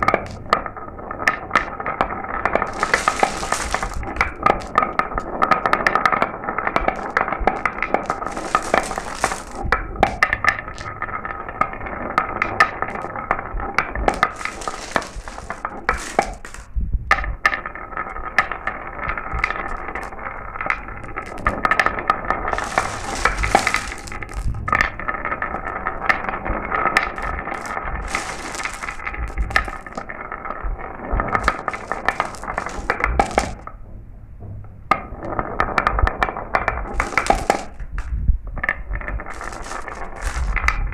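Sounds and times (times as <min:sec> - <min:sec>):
marbles rolling and clicking: 0:00.0 - 0:33.8, 0:34.9 - 0:40.9.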